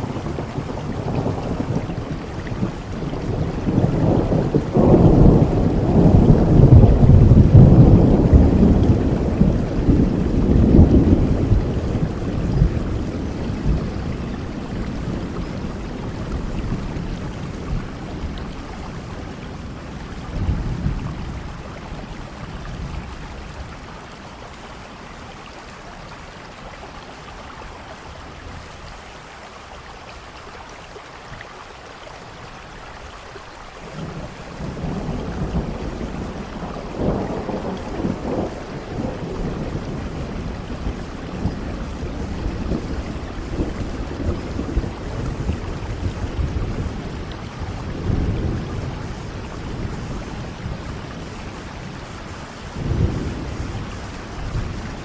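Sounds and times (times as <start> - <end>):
rolling thunder: 0.0 - 23.8, 33.8 - 55.0
heavy rain: 0.0 - 55.0.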